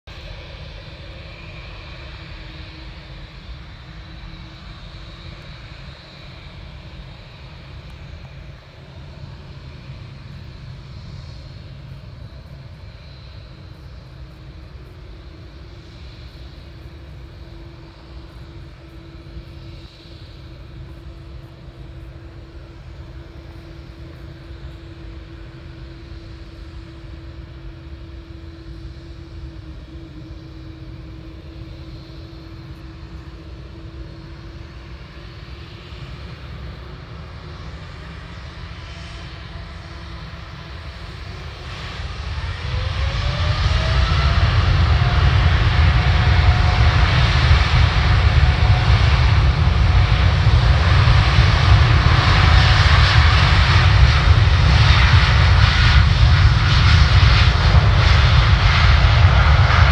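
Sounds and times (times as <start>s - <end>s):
jet engines rumbling: 0.1s - 59.9s
steady droning tone: 0.1s - 59.9s.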